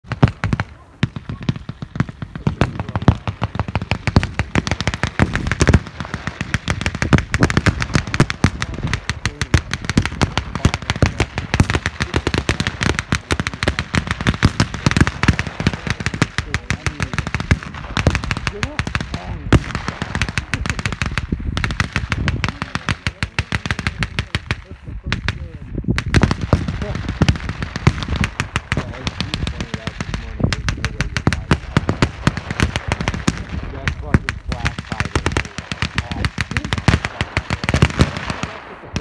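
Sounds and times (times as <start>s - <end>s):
heavy blank gunfire: 0.0s - 39.0s.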